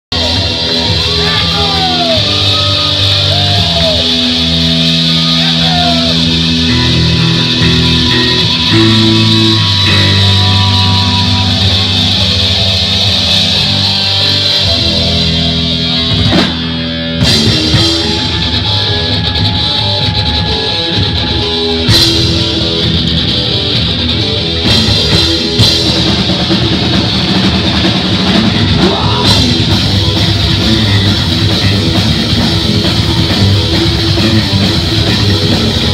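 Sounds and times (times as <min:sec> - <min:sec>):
bass guitar: 0:00.0 - 0:35.9
drum kit: 0:00.1 - 0:35.9
electric guitar riffing: 0:00.1 - 0:35.9.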